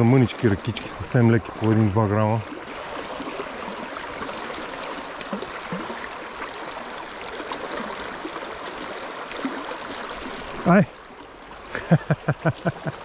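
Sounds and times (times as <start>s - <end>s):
river rushing over stones: 0.0s - 11.8s.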